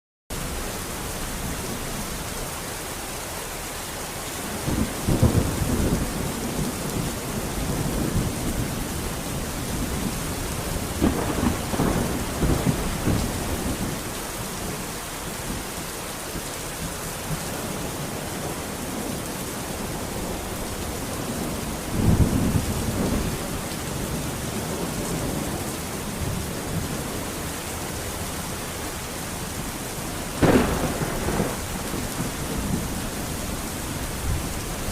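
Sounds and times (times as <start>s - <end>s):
heavy rain hissing: 0.3s - 34.9s
thunder rumbling: 4.4s - 15.7s, 17.2s - 34.9s.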